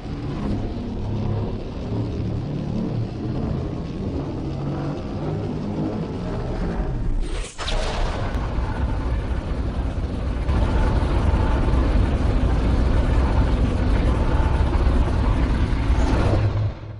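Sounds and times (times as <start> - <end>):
loud monster rumble: 0.0 - 16.9.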